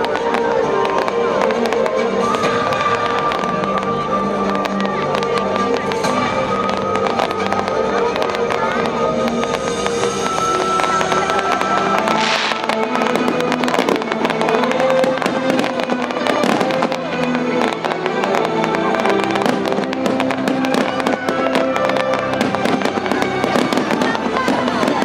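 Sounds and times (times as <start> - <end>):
fireworks cracking: 0.0 - 25.0
music playing: 0.0 - 25.0.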